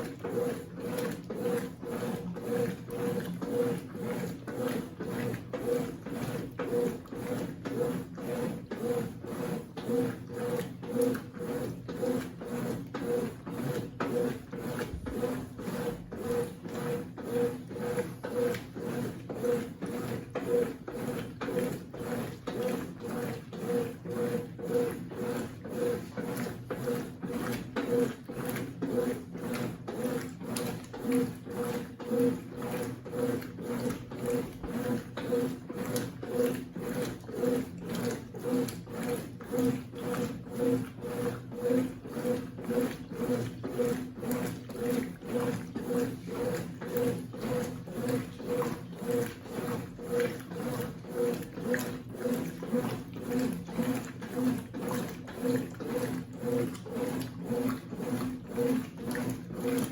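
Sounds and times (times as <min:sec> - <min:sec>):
washing machine drum beating: 0:00.0 - 0:59.9.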